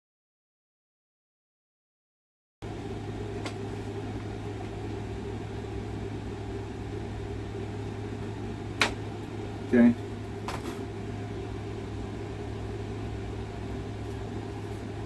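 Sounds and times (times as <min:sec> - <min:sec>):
low mechanical hum: 0:02.6 - 0:15.0.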